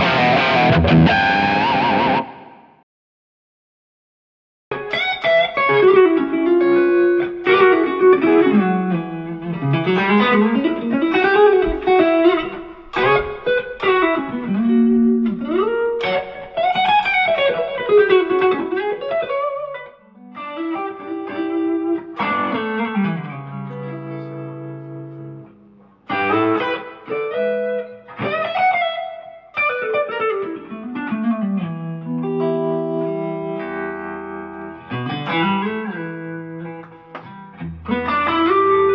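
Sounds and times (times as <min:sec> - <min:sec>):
electric guitar chords ringing: 0:00.0 - 0:02.8, 0:04.7 - 0:38.9
electric guitar lead with bends: 0:00.0 - 0:02.8, 0:04.7 - 0:38.9.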